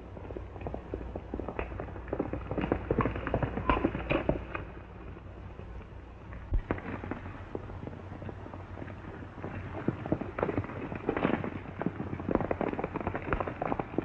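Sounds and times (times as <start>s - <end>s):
horse galloping hoofbeats: 0.0s - 14.0s.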